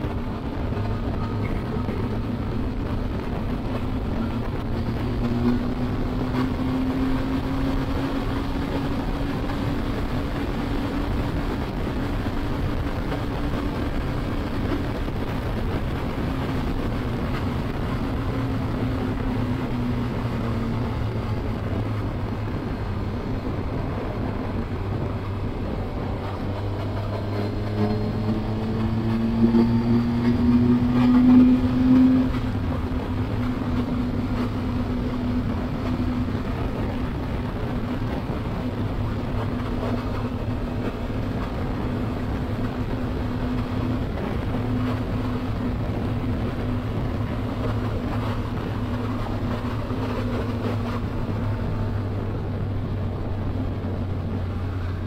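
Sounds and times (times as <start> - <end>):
wind noise: 0.0 - 55.0.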